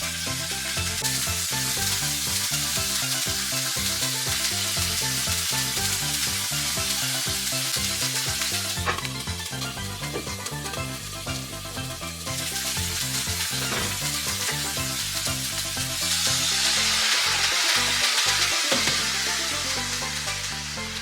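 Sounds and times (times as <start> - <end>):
background music: 0.0 - 21.0
food sizzling in frying pan: 0.0 - 21.0.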